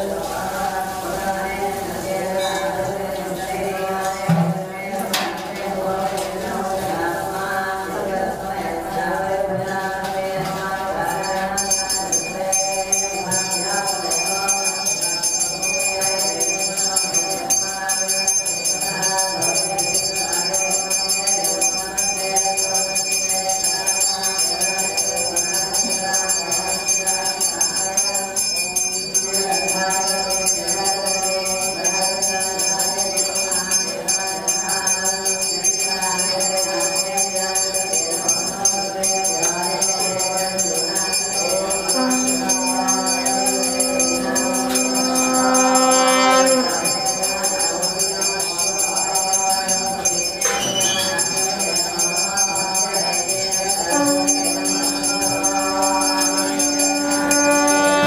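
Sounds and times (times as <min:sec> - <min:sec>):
voices chanting together: 0:00.0 - 0:58.0
hand bell ringing: 0:11.2 - 0:58.0.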